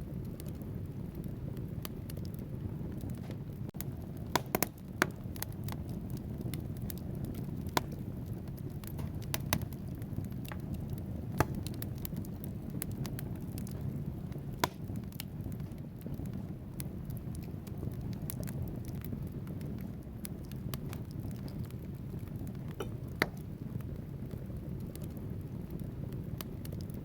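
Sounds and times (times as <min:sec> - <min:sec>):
fire crackles and pops: 0:00.0 - 0:27.0
fire flames rumbling: 0:00.0 - 0:27.0.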